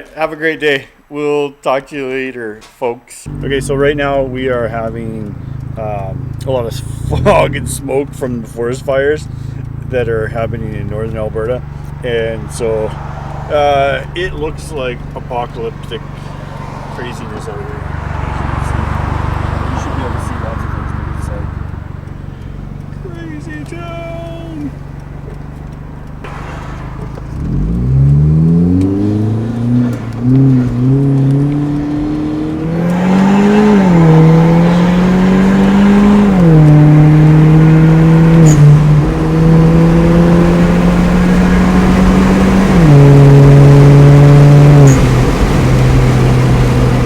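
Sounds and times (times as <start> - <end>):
car engine accelerating: 3.2 - 47.0.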